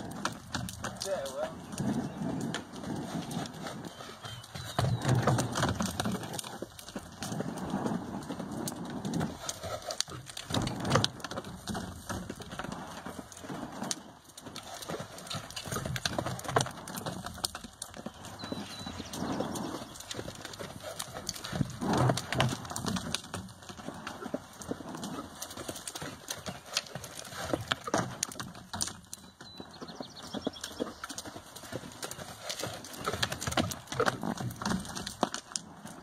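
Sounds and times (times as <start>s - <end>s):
hoofbeats on soft ground: 0.0s - 36.0s.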